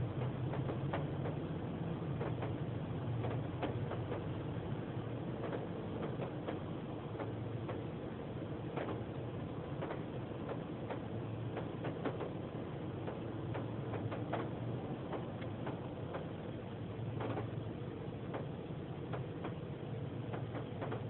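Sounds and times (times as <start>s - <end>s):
water dripping on car: 0.0s - 21.0s.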